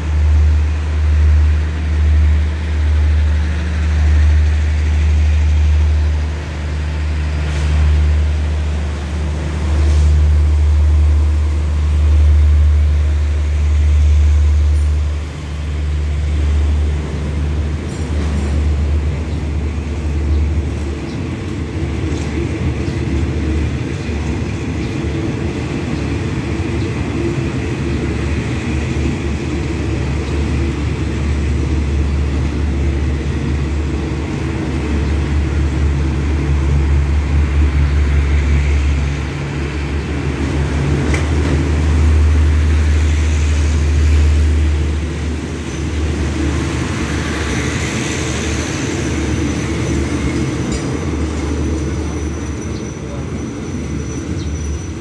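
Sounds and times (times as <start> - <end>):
train rolling past: 0.0 - 55.0.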